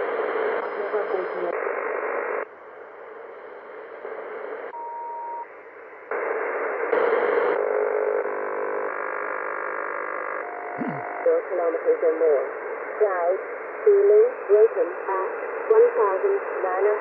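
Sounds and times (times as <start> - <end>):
radio static: 0.0 - 2.5, 5.8 - 17.0
steady radio tones: 0.0 - 17.0.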